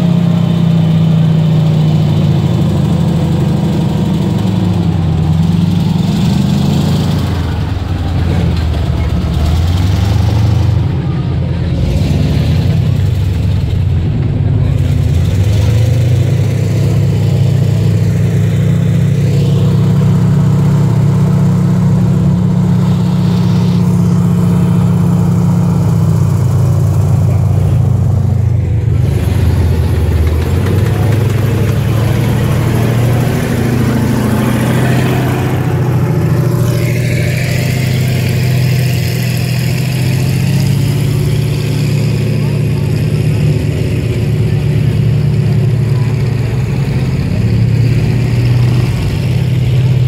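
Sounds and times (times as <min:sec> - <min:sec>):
half-track engine: 0:00.0 - 0:50.0
tank engine droning: 0:00.0 - 0:50.0.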